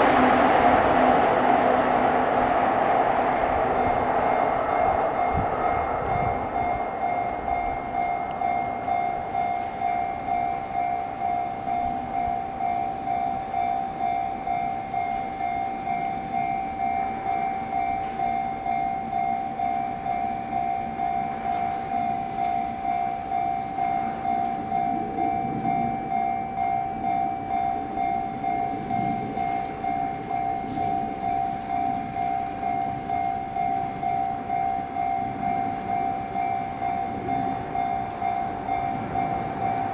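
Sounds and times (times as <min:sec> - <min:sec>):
level-crossing warning bell ringing: 0:00.0 - 0:39.9.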